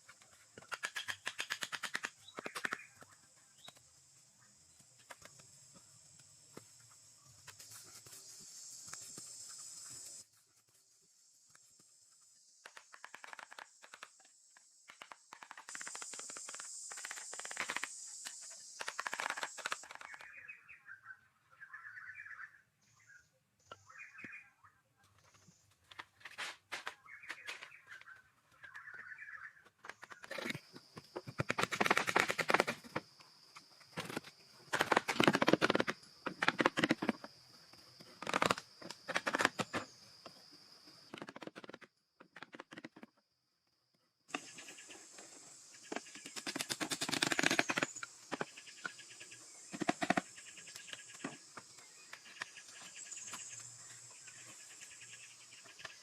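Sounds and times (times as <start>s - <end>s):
insects buzzing: 0.0s - 20.7s, 26.8s - 41.3s, 44.2s - 56.0s.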